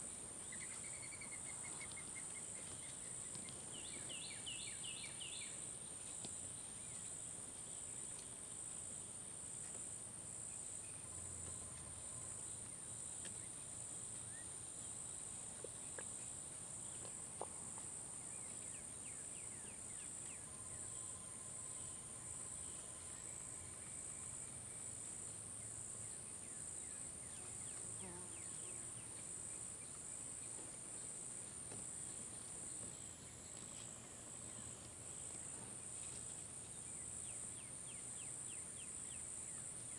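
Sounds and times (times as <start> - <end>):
insects chorus: 0.4 - 39.9.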